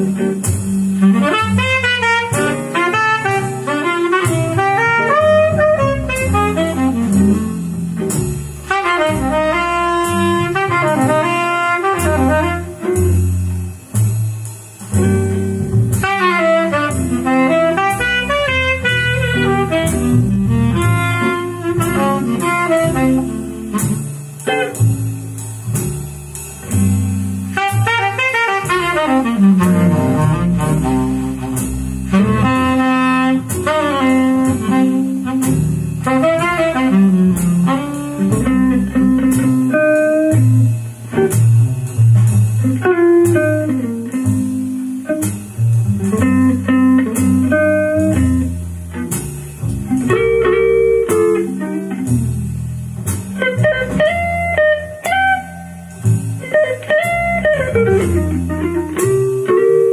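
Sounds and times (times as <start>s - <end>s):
blues-jazz guitar music: 0.0s - 59.9s.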